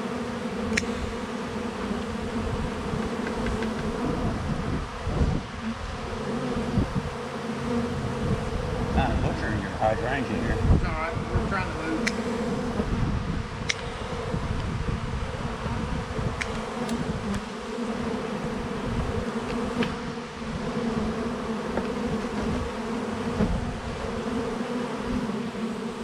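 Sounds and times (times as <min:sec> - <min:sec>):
bee swarm buzzing: 0:00.0 - 0:26.0.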